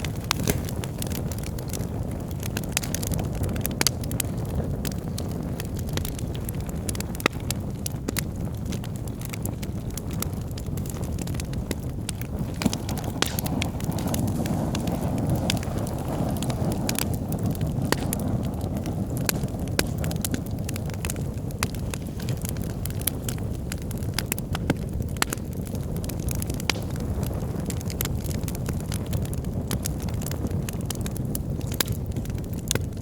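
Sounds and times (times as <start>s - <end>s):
logs burning in a fireplace: 0.0s - 33.0s.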